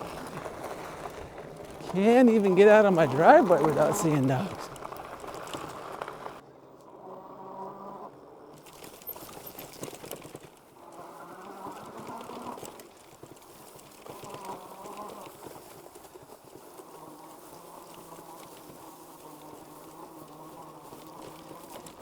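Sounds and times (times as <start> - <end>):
rolling tyre noise: 0.0 - 22.0.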